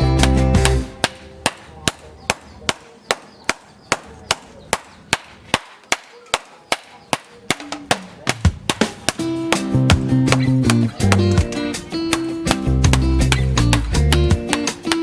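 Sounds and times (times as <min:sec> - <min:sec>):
hand hammer striking metal: 0:00.0 - 0:15.0.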